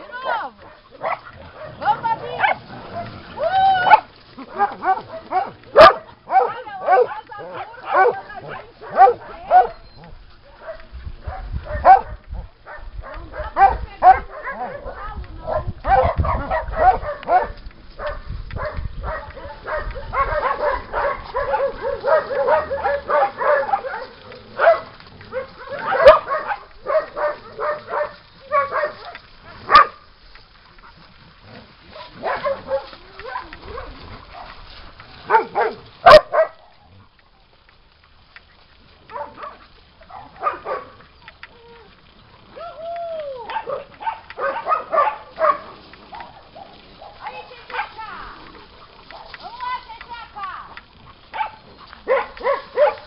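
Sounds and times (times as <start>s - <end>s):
dogs barking: 0.0s - 3.2s, 3.8s - 30.0s, 31.9s - 34.6s, 35.2s - 37.0s, 39.1s - 41.2s, 43.4s - 53.0s.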